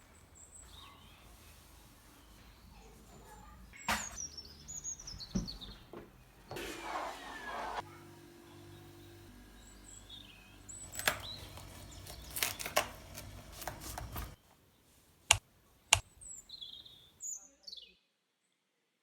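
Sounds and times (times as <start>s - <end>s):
birds chirping faintly: 0.0s - 6.6s, 7.2s - 15.0s, 15.6s - 18.1s.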